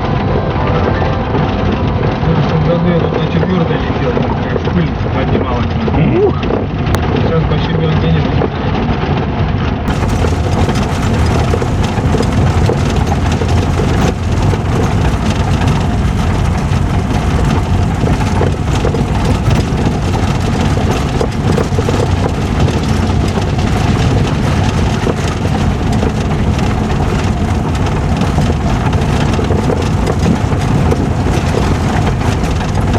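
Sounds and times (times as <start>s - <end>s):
engine running loudly: 0.0s - 32.9s.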